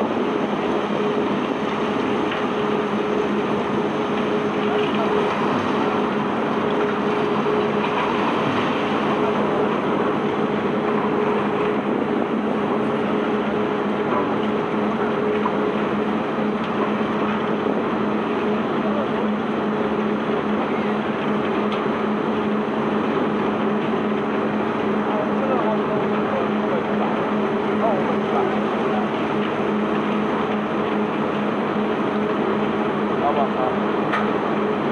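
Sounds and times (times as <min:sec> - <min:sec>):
constant mechanical drone: 0:00.0 - 0:34.9
steady hum: 0:00.0 - 0:34.9.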